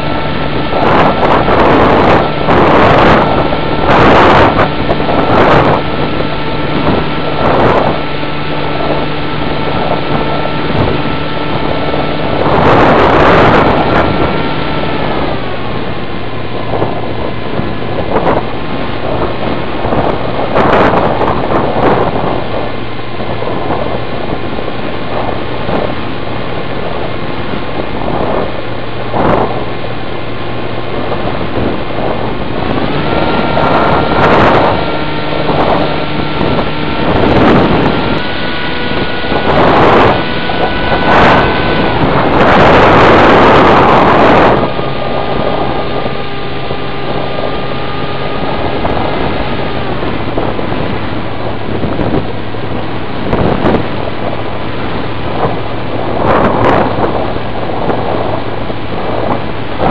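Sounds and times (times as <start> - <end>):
model plane motor whine: 0.0 - 59.9
wind gusts on microphone: 0.0 - 59.9.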